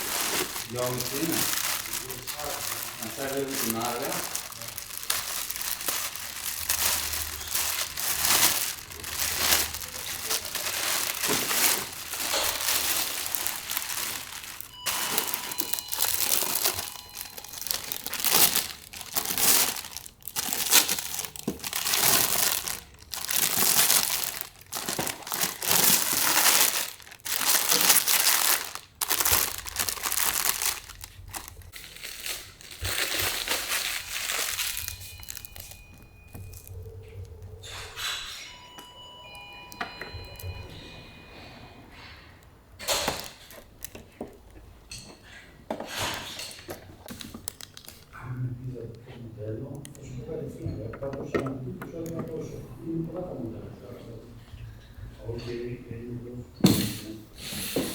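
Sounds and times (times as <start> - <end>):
packing material crinkling: 0.0 - 40.6, 42.8 - 44.6, 46.1 - 50.2, 51.9 - 53.5.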